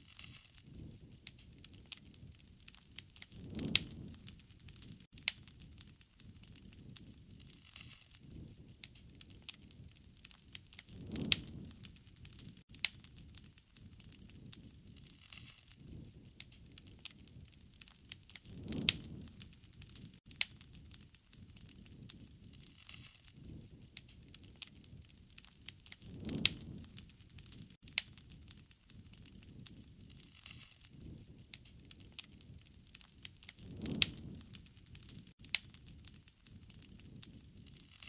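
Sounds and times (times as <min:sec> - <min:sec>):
wood fire crackling and popping: 0:00.0 - 0:38.0
low rush of flame: 0:00.1 - 0:38.0.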